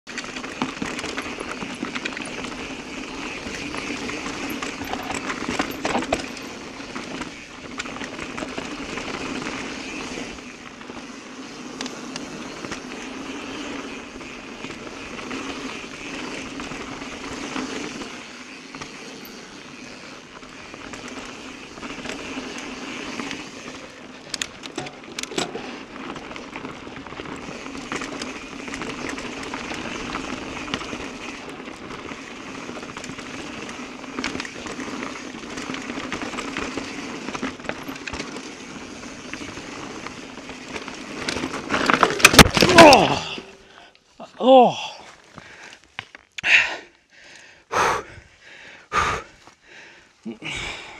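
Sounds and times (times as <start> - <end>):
bike rattling: 0.1 - 50.9
bike tyre and wind noise: 0.1 - 50.9.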